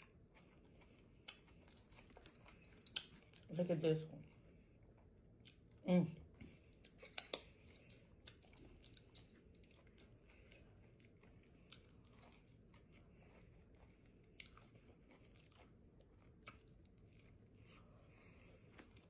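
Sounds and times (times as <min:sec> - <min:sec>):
person chewing food: 0:00.0 - 0:03.5, 0:04.2 - 0:19.0.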